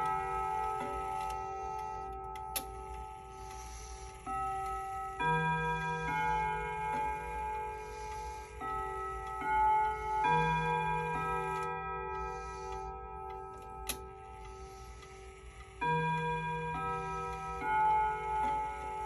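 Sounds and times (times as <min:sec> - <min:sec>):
clock chime melody: 0:00.0 - 0:19.0
pendulum tick-tock: 0:00.0 - 0:19.0.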